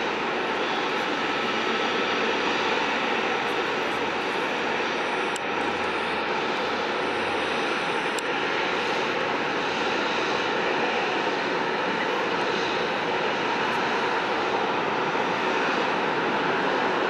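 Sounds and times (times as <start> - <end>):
jet airliner engines roaring: 0.0 - 17.0.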